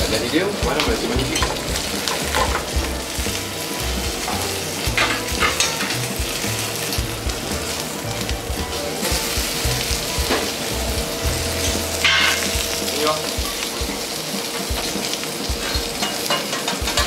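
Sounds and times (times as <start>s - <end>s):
seafood sizzling in a frying pan: 0.0s - 17.0s.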